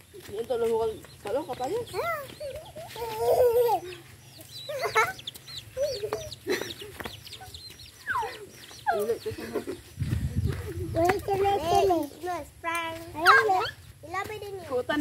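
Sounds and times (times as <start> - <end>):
chickens clucking: 0.0 - 12.3.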